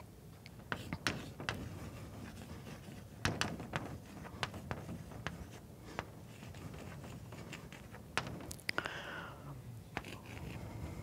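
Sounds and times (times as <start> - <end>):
faint room hum: 0.0 - 11.0
chalk tapping and scratching: 0.4 - 8.6, 9.9 - 11.0.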